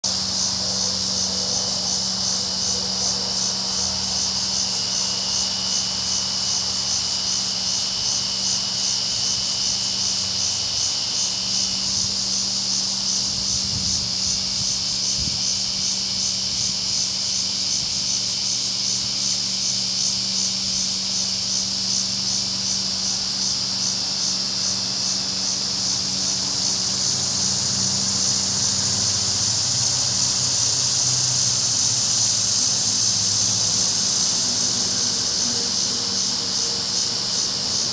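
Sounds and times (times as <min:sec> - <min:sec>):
high-pitched insect chorus: 0:00.0 - 0:37.9.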